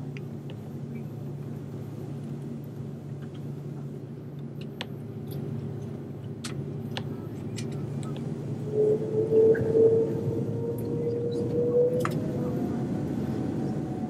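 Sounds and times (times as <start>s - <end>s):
jet cabin engine and airflow hum: 0.0s - 14.0s.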